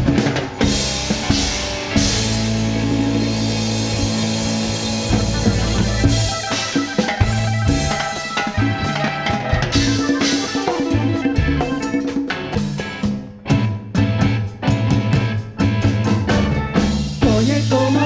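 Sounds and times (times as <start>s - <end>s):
drum kit snare and bass drum: 0.0s - 18.0s
rock band instrumental: 0.0s - 18.0s.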